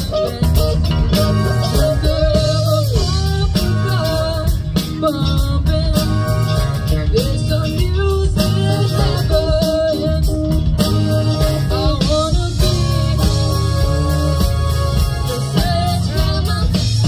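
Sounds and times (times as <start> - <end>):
woman singing: 0.0 - 6.4, 7.0 - 17.0
bass guitar: 0.0 - 17.0
drum kit: 0.0 - 17.0
electric guitars: 0.0 - 17.0
keyboards: 0.0 - 17.0.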